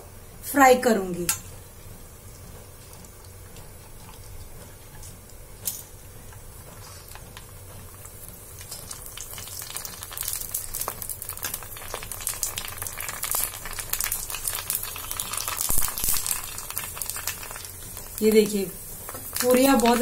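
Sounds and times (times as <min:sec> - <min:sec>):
oil sizzling and crackling: 0:01.2 - 0:20.0.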